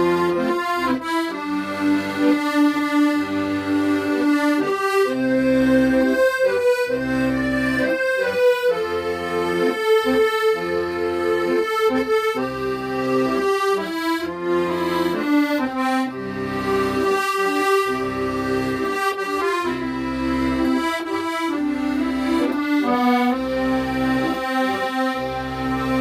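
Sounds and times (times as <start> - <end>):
accordion melody: 0.0 - 26.0.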